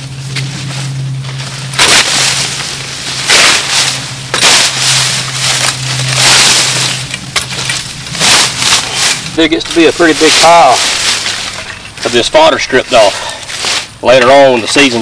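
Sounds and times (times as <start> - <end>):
dry leaves crackling and rustling: 0.0 - 15.0.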